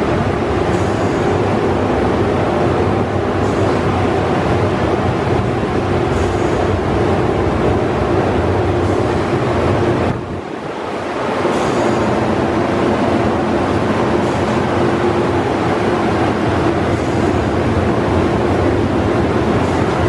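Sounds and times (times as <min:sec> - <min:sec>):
car wash dryer blowers: 0:00.0 - 0:20.0.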